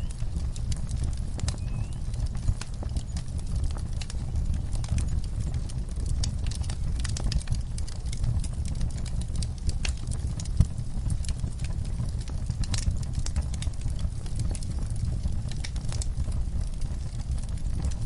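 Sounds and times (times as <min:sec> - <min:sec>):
low rumble: 0:00.0 - 0:18.0
wood fire crackling and popping: 0:00.0 - 0:18.0.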